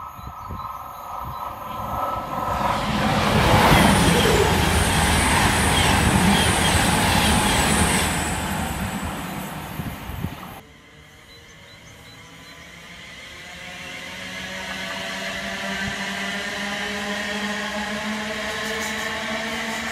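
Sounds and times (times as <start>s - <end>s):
electric train passing at speed: 0.0s - 19.9s.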